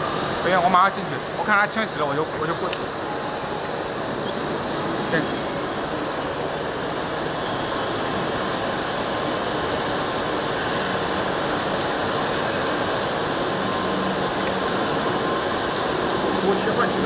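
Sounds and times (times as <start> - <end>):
milling machine cutting metal: 2.2 - 17.0.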